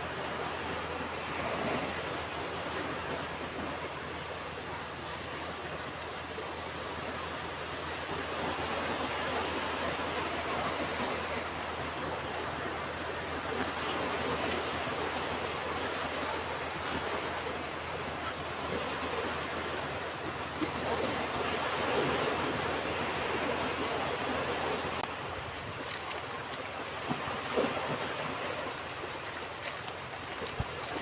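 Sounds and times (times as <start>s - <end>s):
ocean waves breaking on beach: 0.0s - 31.0s.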